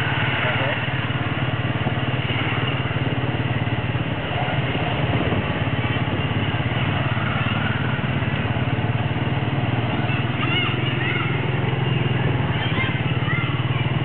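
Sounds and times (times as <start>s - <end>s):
road and traffic noise: 0.0s - 14.0s
small motorcycle engine droning: 0.0s - 14.0s.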